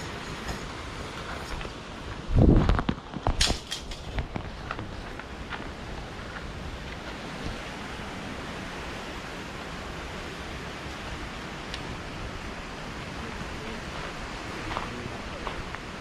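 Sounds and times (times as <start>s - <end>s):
steady outdoor rushing noise: 0.0s - 16.0s.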